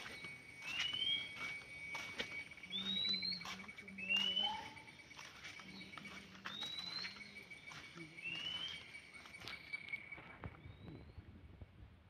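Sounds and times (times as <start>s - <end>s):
insect-like trill: 0.0s - 10.8s
footsteps on dirt path: 0.0s - 11.1s
birds whistling: 0.0s - 11.2s.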